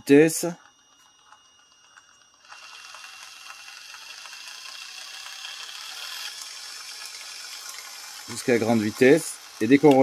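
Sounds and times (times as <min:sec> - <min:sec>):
electric gear motor whirring: 0:00.7 - 0:10.0.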